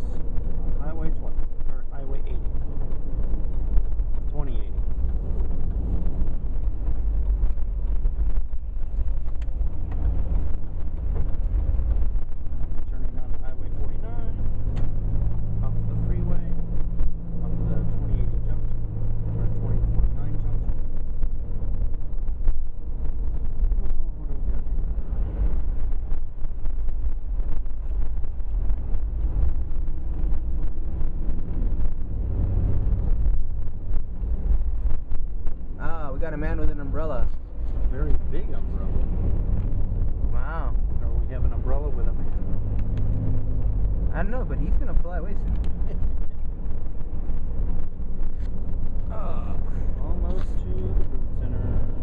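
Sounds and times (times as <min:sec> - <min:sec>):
vehicle road and engine rumble: 0:00.0 - 0:52.0.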